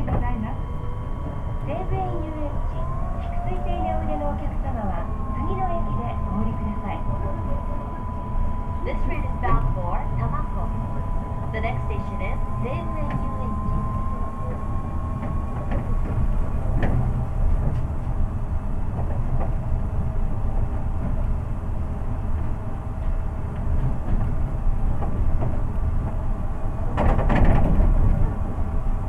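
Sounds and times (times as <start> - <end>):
train running low rumble: 0.0 - 29.0.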